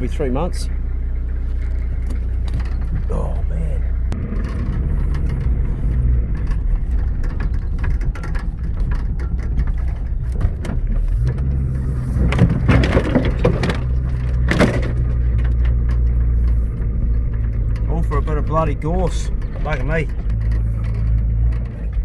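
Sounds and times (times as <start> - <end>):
car engine running: 0.0 - 22.0
crackling and clicking: 1.6 - 22.0.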